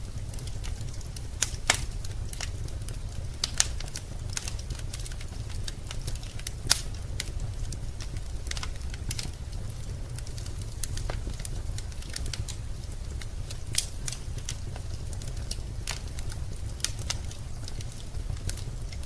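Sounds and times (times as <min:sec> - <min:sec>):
low steady rumble of fire: 0:00.0 - 0:19.0
wood fire crackling and popping: 0:00.0 - 0:19.0.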